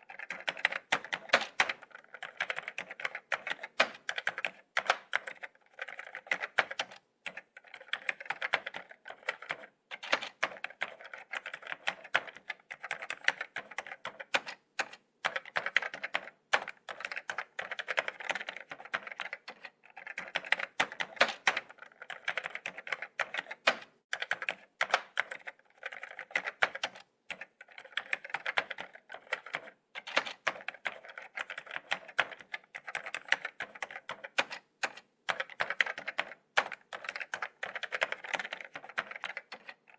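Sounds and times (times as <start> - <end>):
laptop keyboard typing: 0.0 - 39.9.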